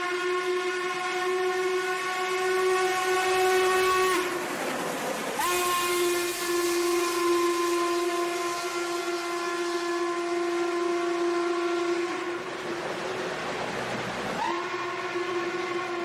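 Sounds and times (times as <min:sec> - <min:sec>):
steam whistle blasts: 0:00.0 - 0:04.6, 0:05.3 - 0:12.8, 0:14.4 - 0:16.0
passing train rushing and hissing: 0:00.0 - 0:16.0.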